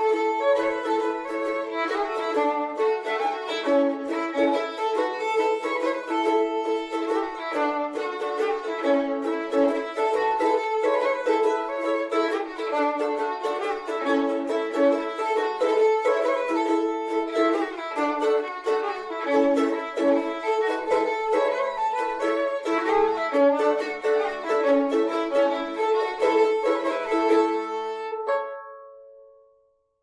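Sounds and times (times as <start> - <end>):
fiddle playing quick bowed notes: 0.0 - 29.2.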